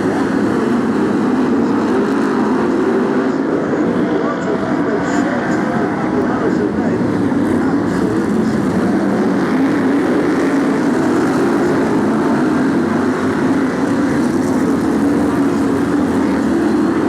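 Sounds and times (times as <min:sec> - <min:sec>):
racing car engines roaring: 0:00.0 - 0:17.0.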